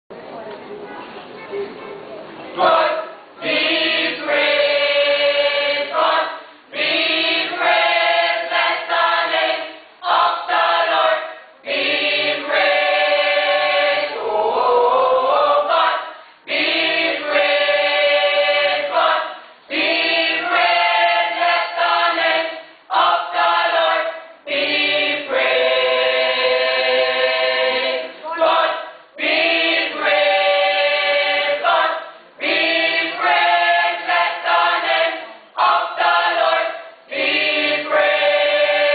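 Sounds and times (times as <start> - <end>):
church choir singing: 2.6 - 38.9.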